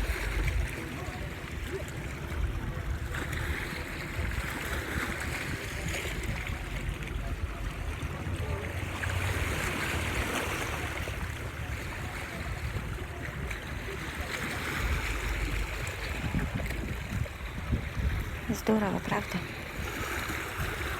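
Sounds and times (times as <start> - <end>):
waves washing against shore: 0.0 - 20.9
wind rumble on microphone: 0.0 - 20.9.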